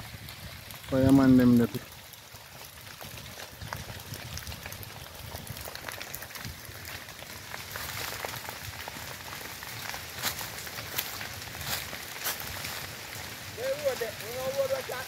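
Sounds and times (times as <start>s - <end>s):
fire burning with crackles: 0.0s - 15.0s.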